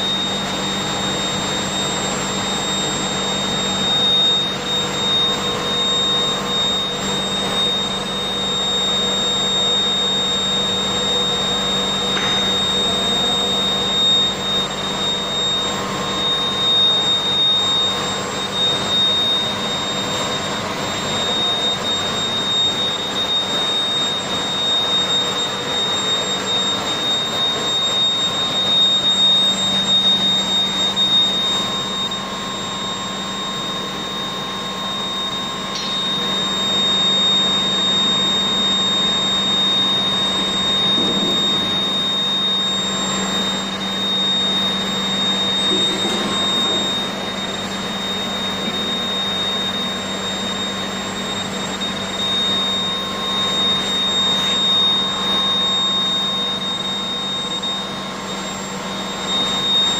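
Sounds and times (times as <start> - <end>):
high-pitched whine: 0.0 - 59.9
steady machine hum: 0.0 - 59.9.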